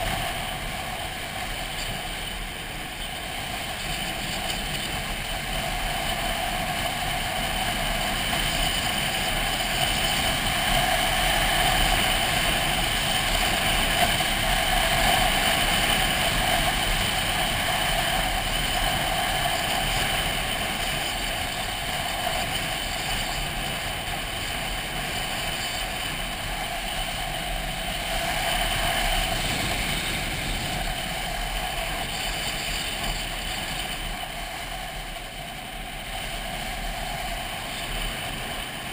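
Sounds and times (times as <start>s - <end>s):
motorcycle engine cruising: 0.0s - 38.9s
wind noise: 0.0s - 38.9s.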